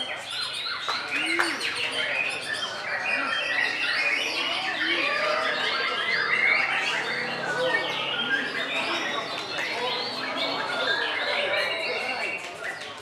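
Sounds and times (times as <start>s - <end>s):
overlapping birdsong: 0.0s - 13.0s.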